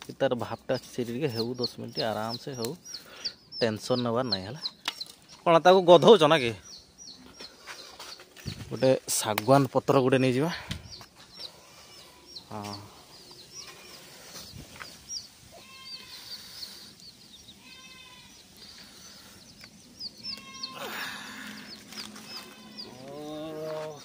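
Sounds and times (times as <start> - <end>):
birds chirping: 0.0 - 24.0
lower fuller bird calls: 0.4 - 24.0.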